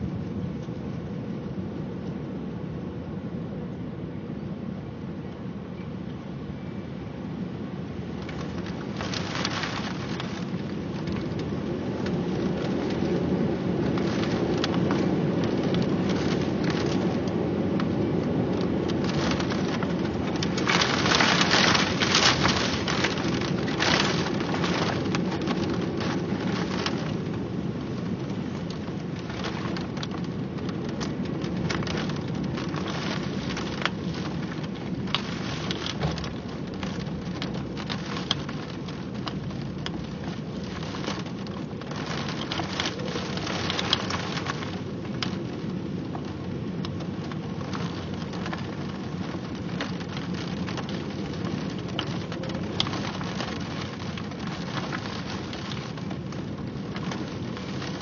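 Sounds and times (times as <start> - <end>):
heavy rain on hard surface: 0.0 - 58.0.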